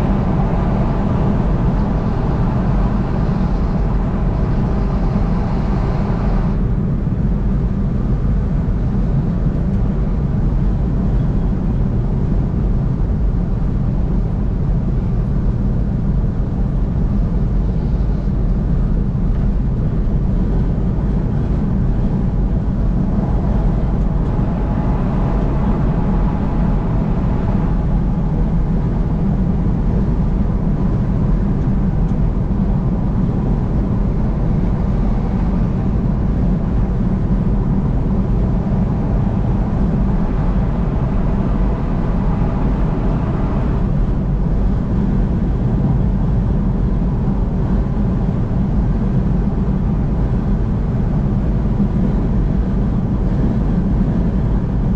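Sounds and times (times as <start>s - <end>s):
car road and tyre noise: 0.0s - 54.9s
faint steady whine: 0.0s - 54.9s.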